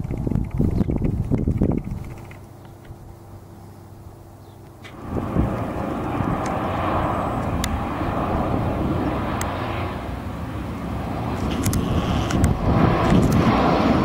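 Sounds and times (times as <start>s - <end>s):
airliner engines rumbling: 0.0s - 14.0s.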